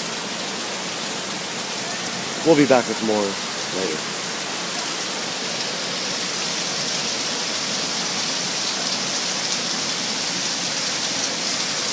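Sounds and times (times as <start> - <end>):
heavy rain pouring: 0.0 - 11.9.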